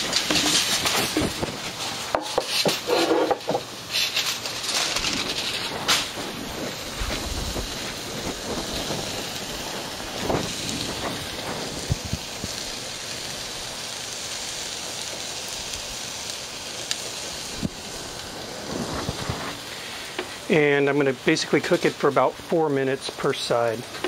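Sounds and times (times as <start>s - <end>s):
steak sizzling on a grill: 0.0s - 24.0s.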